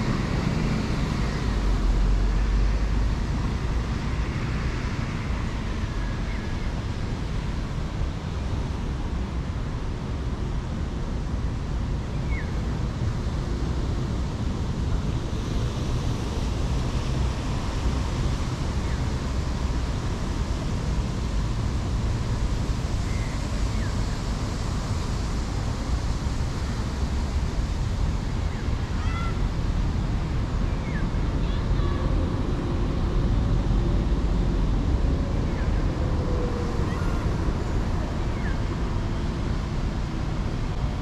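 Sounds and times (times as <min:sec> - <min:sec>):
road and bus traffic rumble: 0:00.0 - 0:41.0.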